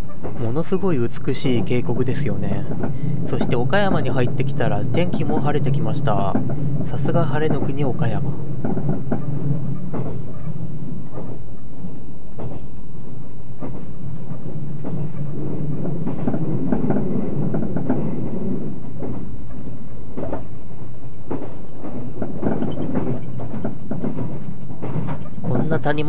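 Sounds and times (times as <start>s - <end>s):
rail joint clacks: 0.0s - 26.0s
train wheels rumbling on rail: 0.0s - 26.0s.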